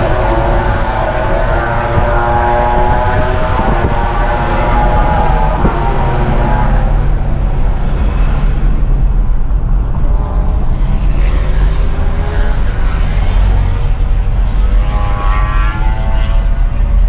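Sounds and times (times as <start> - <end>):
engine whine: 0.0 - 17.0
vehicle engines rumbling: 0.0 - 17.0.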